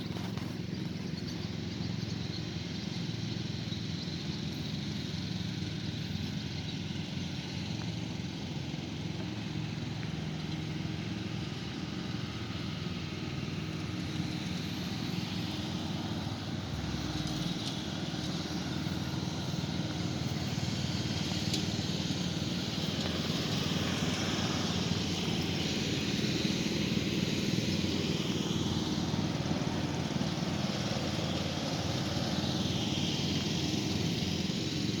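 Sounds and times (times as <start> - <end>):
lawn mower engine running: 0.0 - 35.0.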